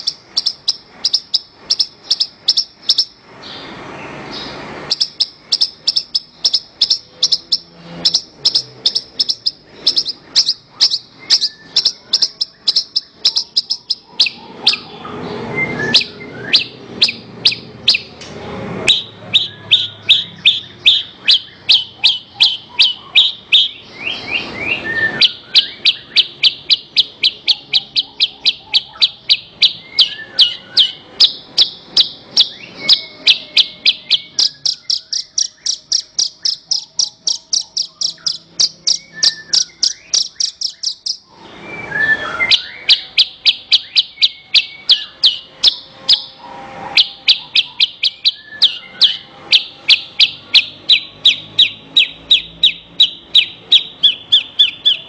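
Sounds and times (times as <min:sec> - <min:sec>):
bird singing high chip notes: 0:00.0 - 0:55.0.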